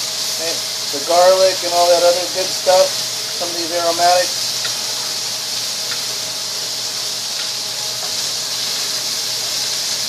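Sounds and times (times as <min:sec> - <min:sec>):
steaks sizzling in a frying pan: 0:00.0 - 0:10.0.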